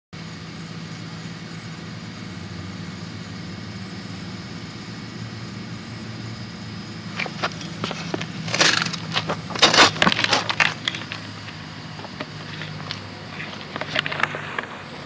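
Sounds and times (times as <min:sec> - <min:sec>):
low drone: 0:00.2 - 0:15.0.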